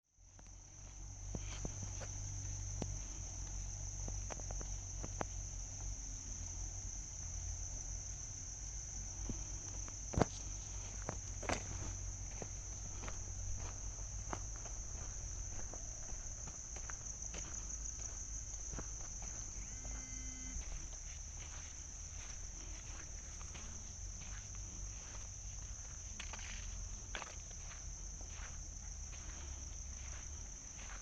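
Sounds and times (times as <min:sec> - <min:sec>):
high-pitched insect chorus: 0:00.2 - 0:31.0
footsteps on forest floor: 0:00.3 - 0:05.9, 0:09.1 - 0:31.0.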